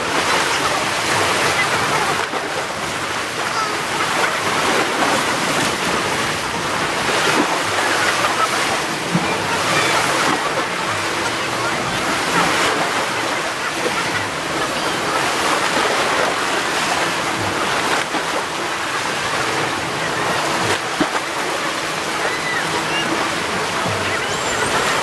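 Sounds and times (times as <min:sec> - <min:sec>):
waves breaking against rocks: 0:00.0 - 0:25.0.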